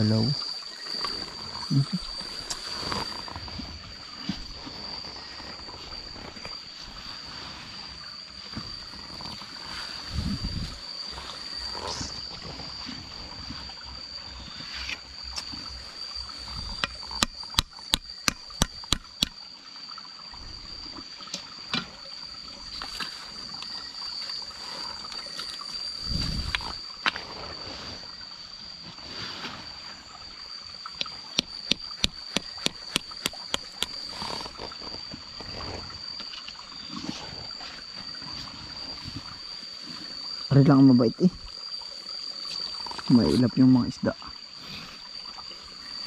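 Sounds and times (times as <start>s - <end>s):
water trickling and lapping: 0.0s - 46.0s.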